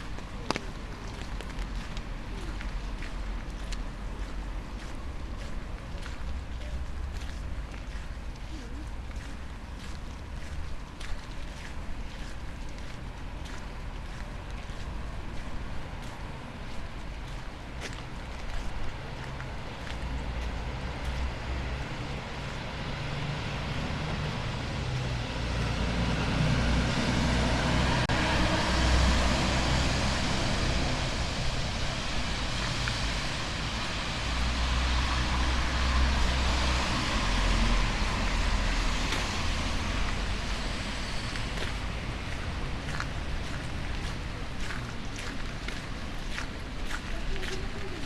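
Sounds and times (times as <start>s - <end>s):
low engine rumble: 0.0s - 48.0s
tyre hiss on wet street: 0.0s - 48.0s.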